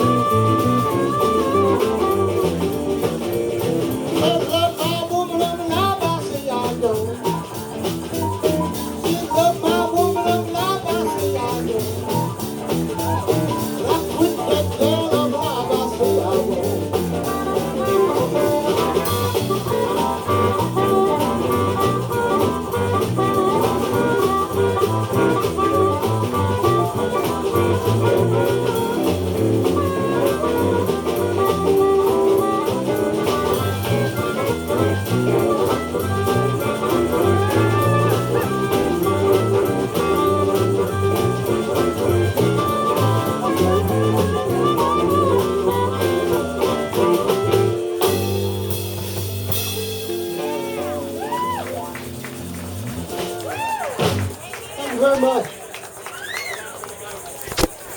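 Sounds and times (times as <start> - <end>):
blues guitar: 0.0 - 54.8
drum kit beat: 0.0 - 54.8.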